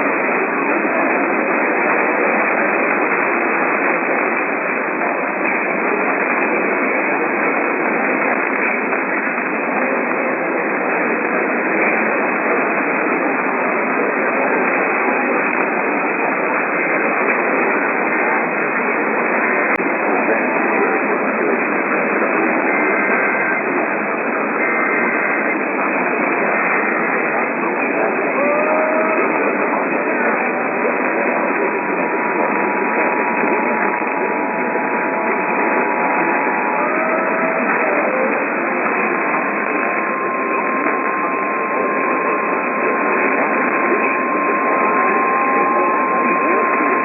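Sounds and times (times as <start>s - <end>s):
radio static hiss: 0.0s - 47.0s.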